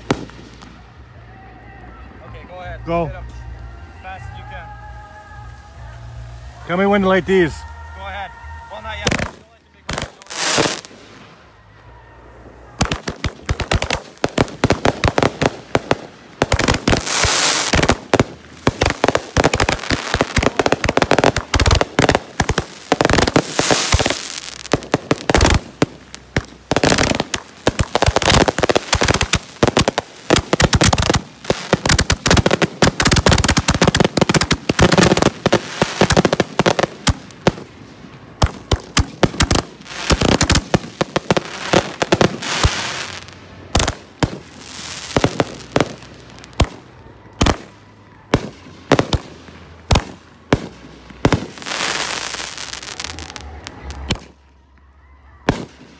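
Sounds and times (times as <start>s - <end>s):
fireworks bangs and crackle: 0.0s - 1.3s, 8.6s - 54.8s, 55.4s - 55.9s.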